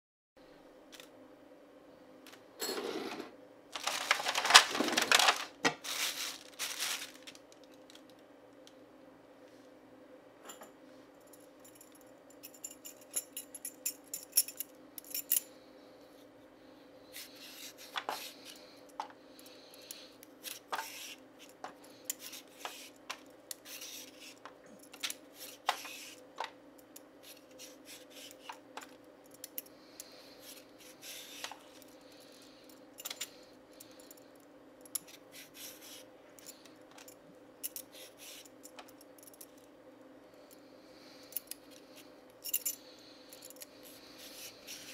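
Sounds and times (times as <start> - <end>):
faint steady hum: 0.4 - 44.9.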